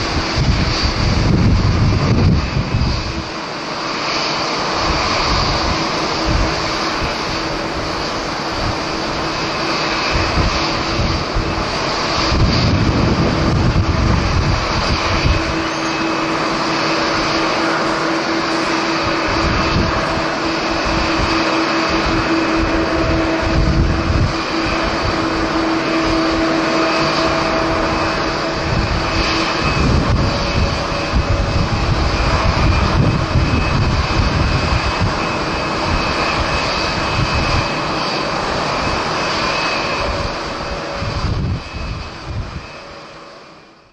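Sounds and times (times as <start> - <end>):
wind buffeting microphone: 0.0 - 43.1
jet engines whining: 0.0 - 43.9.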